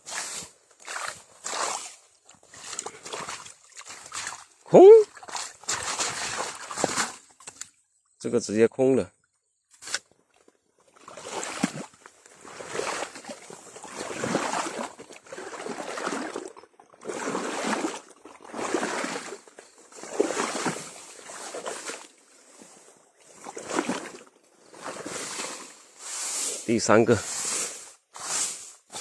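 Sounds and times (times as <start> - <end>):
footsteps sloshing through water: 0.0 - 7.8, 9.8 - 26.6.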